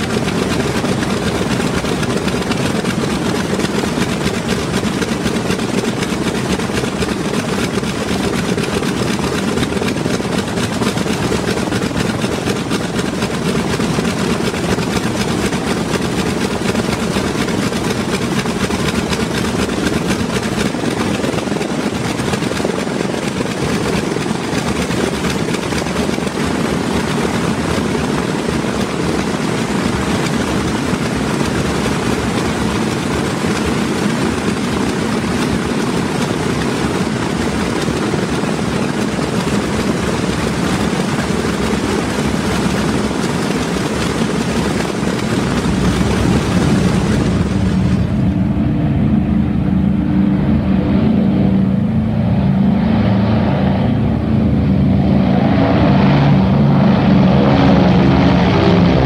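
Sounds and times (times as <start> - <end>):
propeller airliner engines droning: 0.0 - 59.0.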